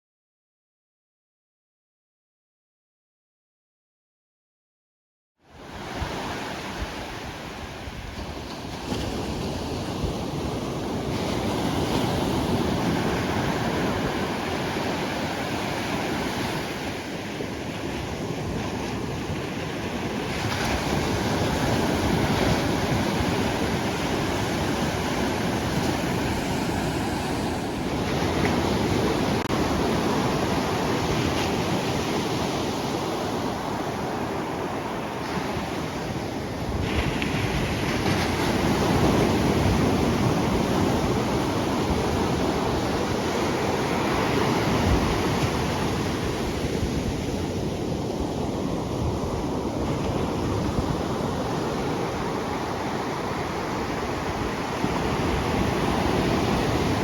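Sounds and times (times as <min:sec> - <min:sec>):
surf breaking on beach: 0:05.6 - 0:57.0
wind buffeting microphone: 0:05.8 - 0:57.0.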